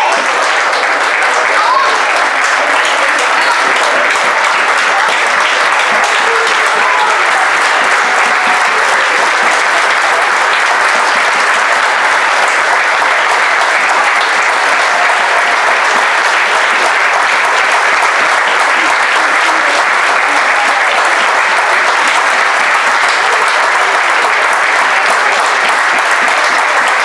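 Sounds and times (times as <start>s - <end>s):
crowd applauding: 0.0s - 27.0s.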